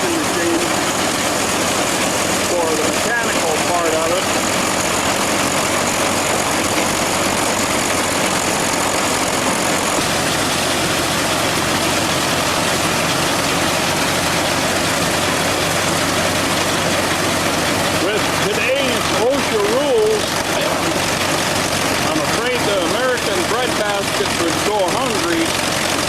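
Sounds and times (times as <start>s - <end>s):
engine low hum: 0.0s - 26.0s
threshing machine din: 0.0s - 26.0s.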